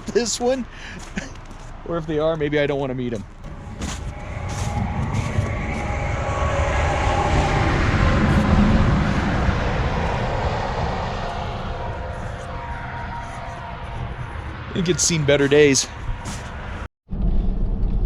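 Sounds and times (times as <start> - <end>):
engine passing: 2.0 - 16.9.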